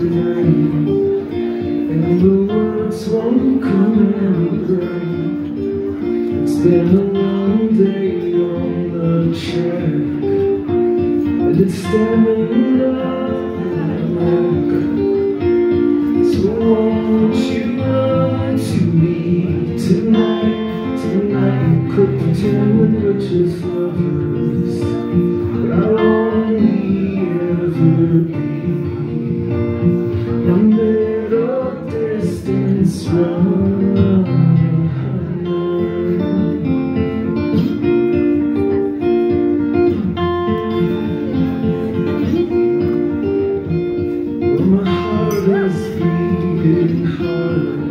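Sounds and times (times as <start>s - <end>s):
acoustic guitar strumming: 0.0s - 47.9s
man singing: 0.0s - 47.9s.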